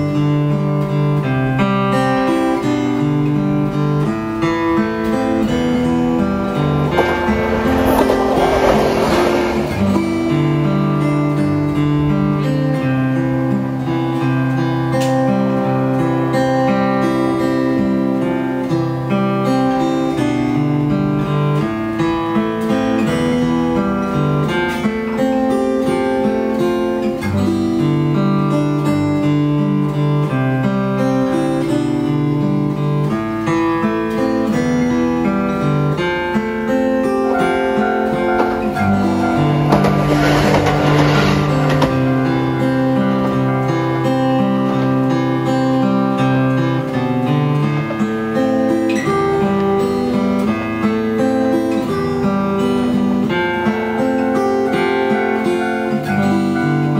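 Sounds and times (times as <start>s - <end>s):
fingerstyle guitar arpeggios: 0.0s - 56.9s.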